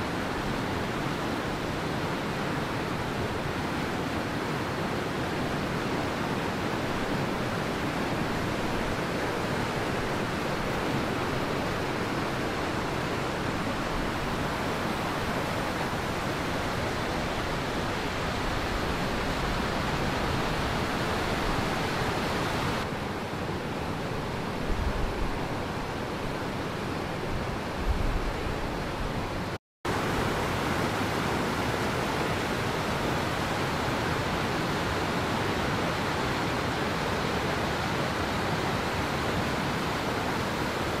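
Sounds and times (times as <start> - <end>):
stream rushing over rapids: 0.0 - 41.0.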